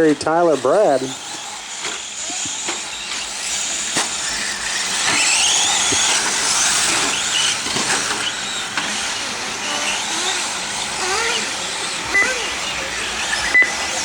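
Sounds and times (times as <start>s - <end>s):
rc truck motors whining: 0.0s - 14.0s.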